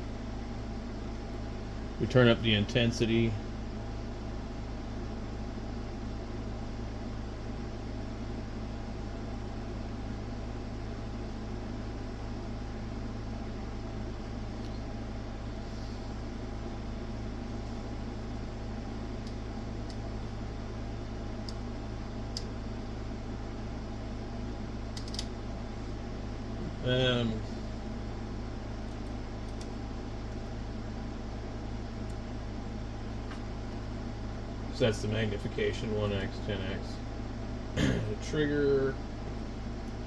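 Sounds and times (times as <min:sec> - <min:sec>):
electrical hum with fan whir: 0:00.0 - 0:40.0.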